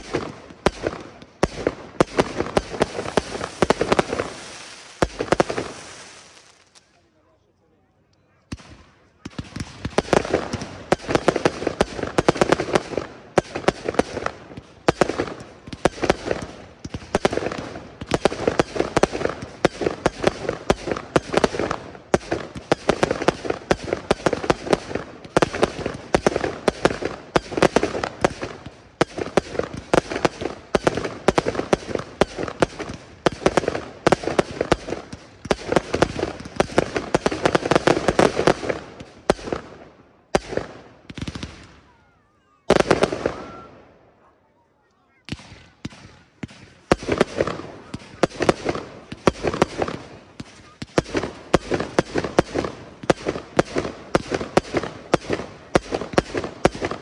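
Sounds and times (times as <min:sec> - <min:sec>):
fireworks cracking and popping: 0:00.0 - 0:07.0, 0:08.5 - 0:41.9, 0:42.7 - 0:43.7, 0:45.2 - 0:57.0.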